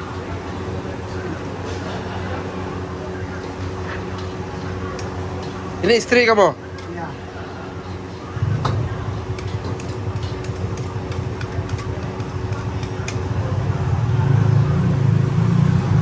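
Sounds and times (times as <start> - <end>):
gas burner rumble: 0.0 - 16.0
steady hum: 0.0 - 16.0.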